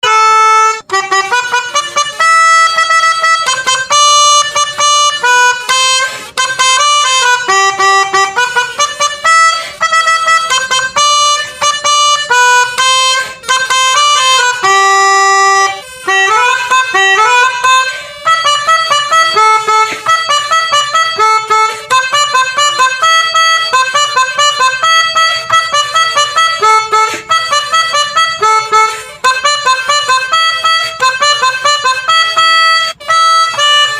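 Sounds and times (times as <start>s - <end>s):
musical bus horn melody: 0.0s - 33.9s.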